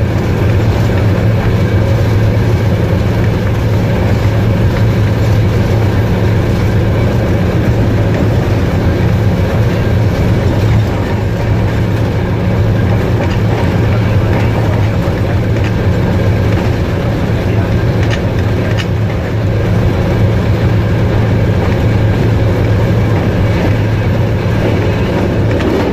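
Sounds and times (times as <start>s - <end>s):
low hum: 0.0s - 25.9s
train wheels rumbling on rails: 0.0s - 25.9s.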